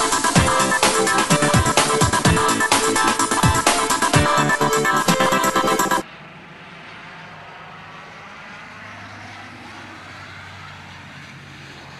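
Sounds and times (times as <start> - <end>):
vehicle rushing noise: 0.0 - 11.9.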